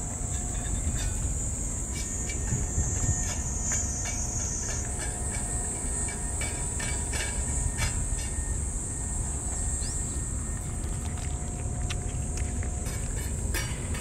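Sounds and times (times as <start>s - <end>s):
cats eating from metal dishes: 0.0s - 14.0s
cicadas droning: 0.0s - 14.0s.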